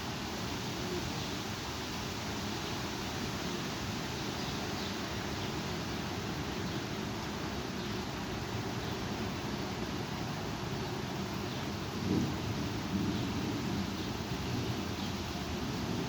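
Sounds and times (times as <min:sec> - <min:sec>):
strong wind with rain: 0:00.0 - 0:16.0.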